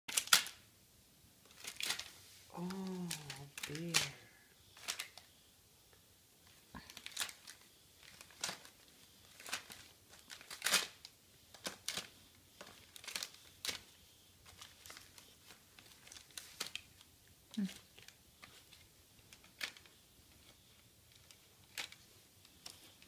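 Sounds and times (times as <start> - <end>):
wrapping paper tearing and crinkling: 0.1 - 0.6, 1.4 - 5.2, 6.8 - 23.0.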